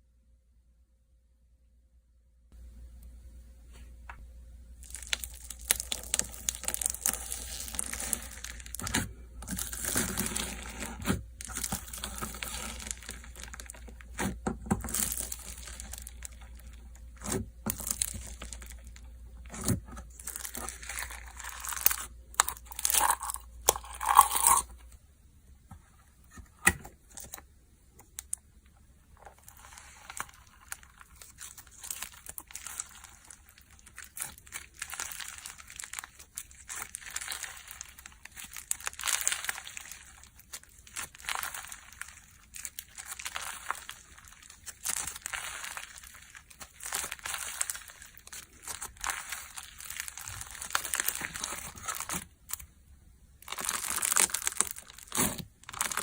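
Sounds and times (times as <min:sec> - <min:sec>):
slime crackling and popping: 0:04.8 - 0:24.8, 0:29.1 - 0:52.8, 0:53.4 - 0:56.0.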